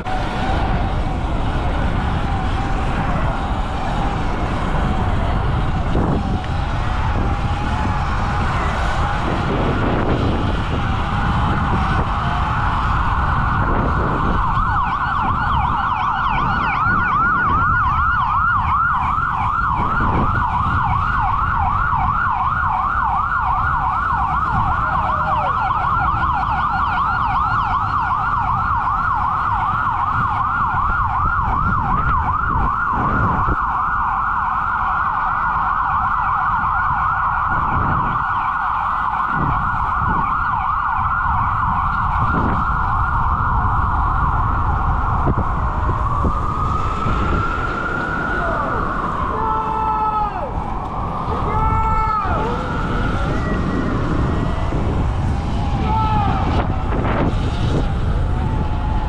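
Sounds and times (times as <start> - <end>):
emergency vehicle siren yelping: 0.0 - 59.0
wind and road noise: 0.0 - 59.0.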